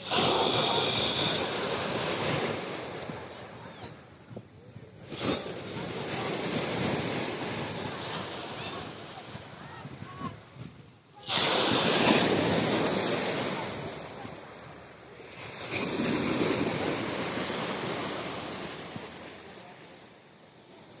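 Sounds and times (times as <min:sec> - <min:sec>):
surf waves crashing on shore: 0:00.0 - 0:21.0.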